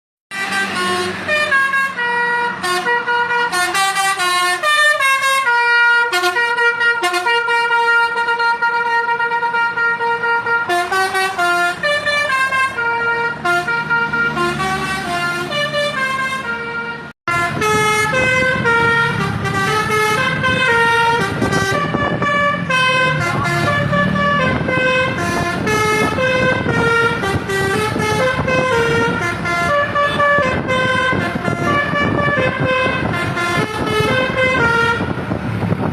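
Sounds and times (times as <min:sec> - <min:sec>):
bus horn playing a melody: 0:00.3 - 0:35.3.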